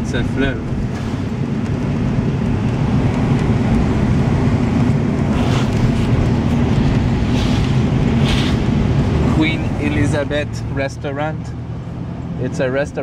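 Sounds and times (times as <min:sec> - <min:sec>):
road rumble: 0:00.0 - 0:13.0
vehicle engine hum: 0:00.0 - 0:13.0.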